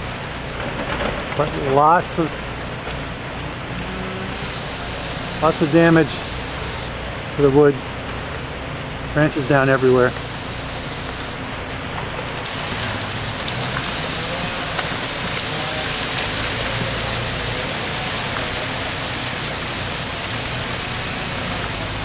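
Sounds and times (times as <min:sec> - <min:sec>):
melting ice dripping off trees: 0:00.0 - 0:22.0.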